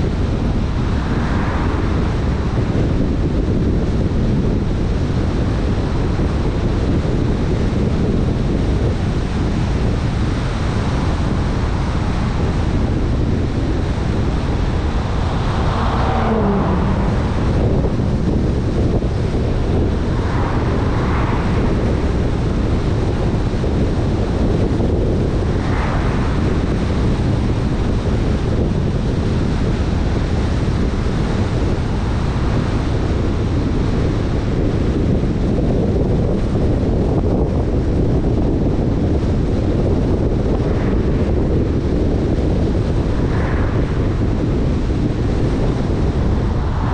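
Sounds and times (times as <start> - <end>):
vehicle rumble: 0.0 - 46.9
wind buffeting microphone: 0.0 - 46.9.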